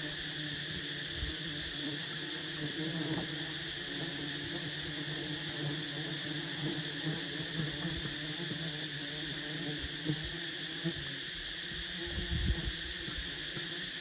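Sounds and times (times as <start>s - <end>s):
insects buzzing and chirring: 0.0s - 14.0s.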